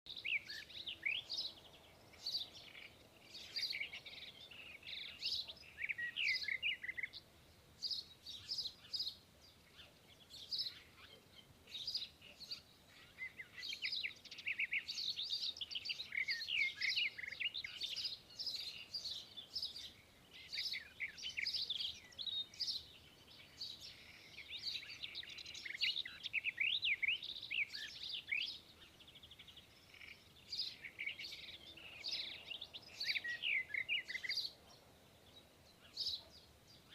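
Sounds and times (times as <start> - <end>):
small birds chirping: 0.1 - 36.9.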